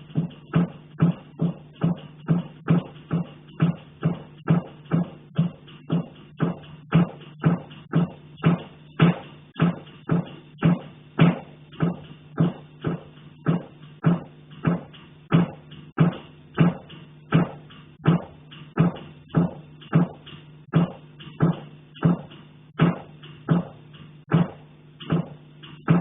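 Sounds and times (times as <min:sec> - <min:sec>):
steady low hum: 0:00.0 - 0:26.0
knocking on heating pipe: 0:00.1 - 0:26.0.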